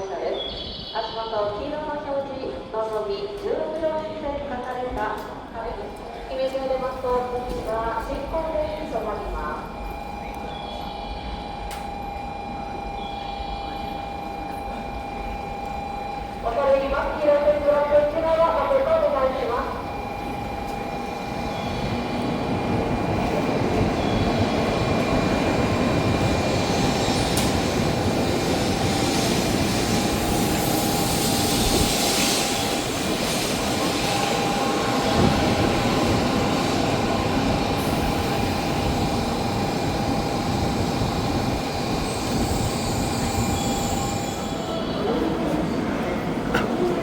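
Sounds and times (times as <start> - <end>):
train wheels rumbling: 5.0 - 47.0
train high whine: 5.2 - 47.0.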